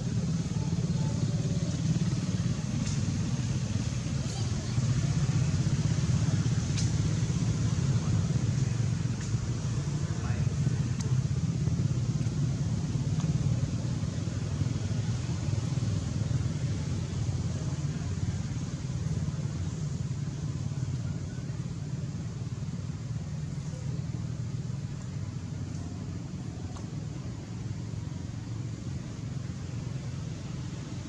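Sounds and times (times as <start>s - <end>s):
faint hiss: 0.0s - 31.0s
steady low rumble: 0.0s - 31.0s.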